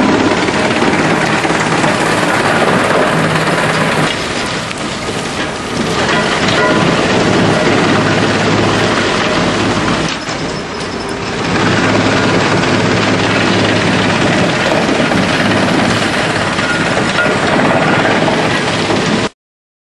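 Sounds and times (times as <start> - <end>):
wood chipper chipping wood: 0.0 - 19.3.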